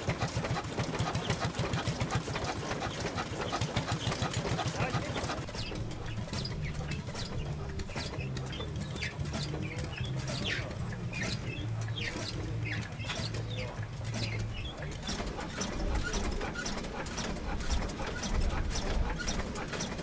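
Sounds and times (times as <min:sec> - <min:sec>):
stationary engine low uneven hum: 0:00.0 - 0:20.0.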